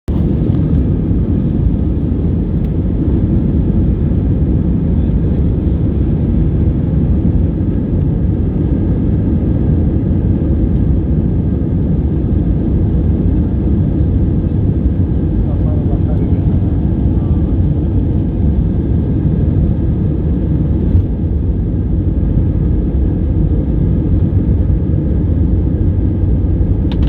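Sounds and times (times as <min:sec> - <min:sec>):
airliner engines rumbling: 0:00.1 - 0:27.0.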